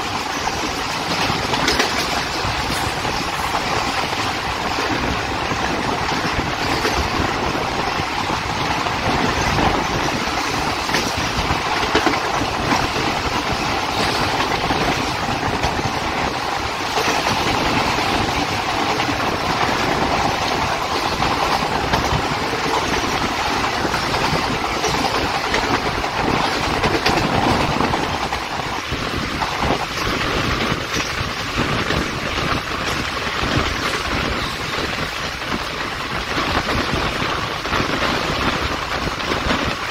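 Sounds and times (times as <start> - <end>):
train wheel-on-rail rumble: 0.0 - 39.9
wind: 0.0 - 39.9.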